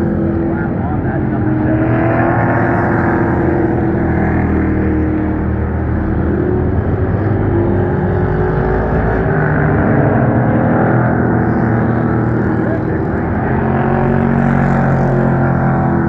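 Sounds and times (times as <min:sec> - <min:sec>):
race truck engines passing: 0:00.0 - 0:16.0.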